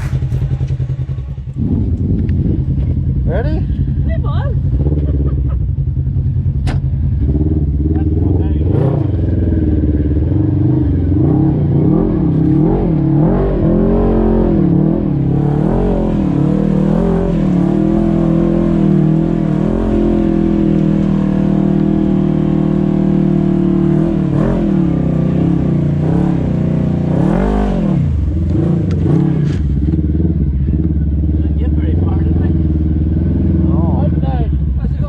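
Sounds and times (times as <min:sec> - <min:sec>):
utility vehicle engine revving: 0:00.0 - 0:35.0.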